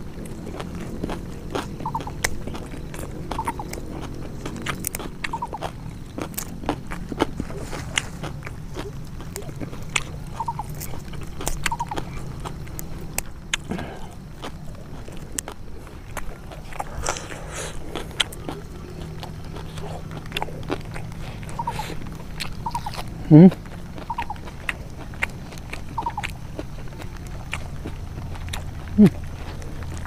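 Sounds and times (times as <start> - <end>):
person chewing crisp leaves: 0.0 - 30.0
steady low hum: 0.0 - 30.0.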